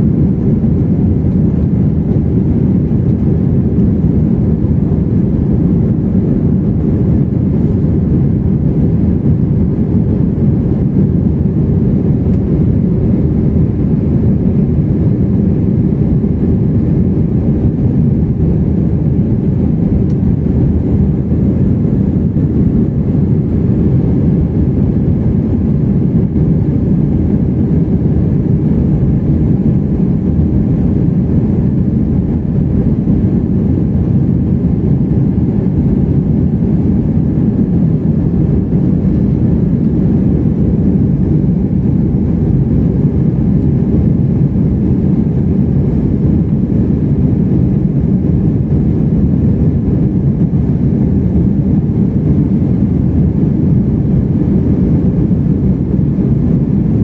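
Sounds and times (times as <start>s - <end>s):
airplane engines and airflow rumble: 0.0s - 57.0s.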